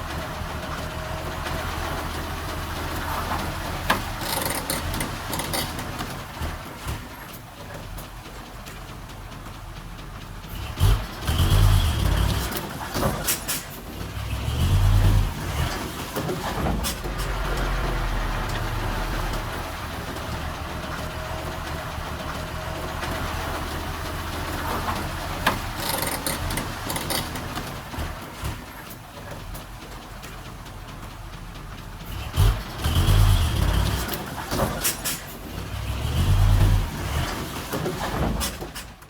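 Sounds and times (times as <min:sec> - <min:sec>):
heavy machinery diesel engine: 0:00.0 - 0:39.0.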